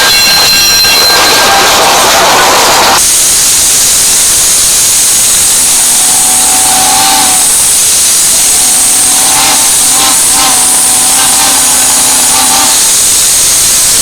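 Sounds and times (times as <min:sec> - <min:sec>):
steam hissing from locomotive: 0:00.0 - 0:14.0.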